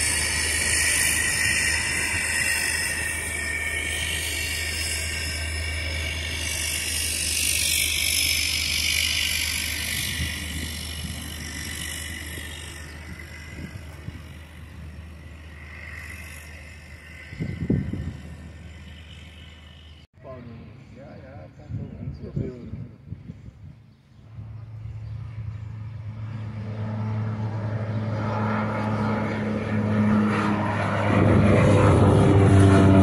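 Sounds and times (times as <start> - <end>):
high turbine whine: 0.0 - 33.0
turboprop propeller drone: 0.0 - 33.0.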